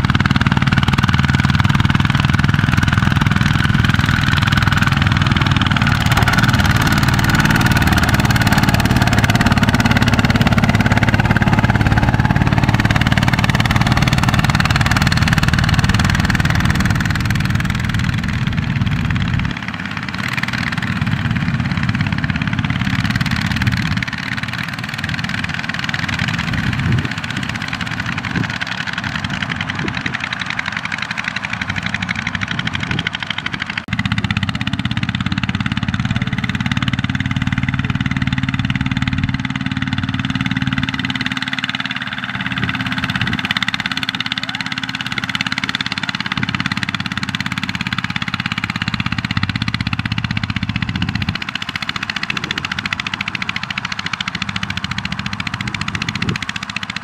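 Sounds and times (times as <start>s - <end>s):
diesel tractor engines running: 0.0s - 57.0s.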